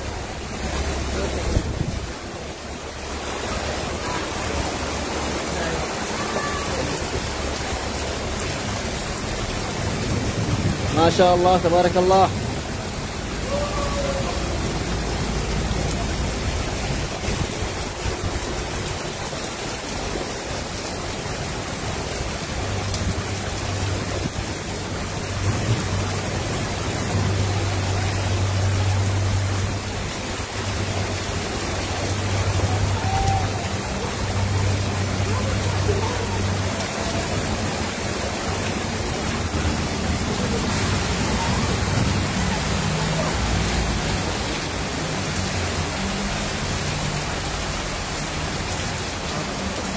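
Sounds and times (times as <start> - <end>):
heavy rain pouring on street: 0.0 - 49.9.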